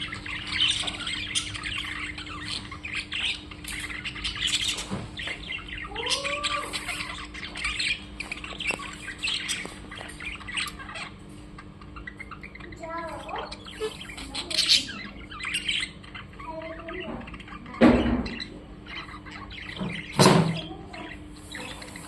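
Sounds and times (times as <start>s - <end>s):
birds chirping and squawking: 0.0s - 22.0s.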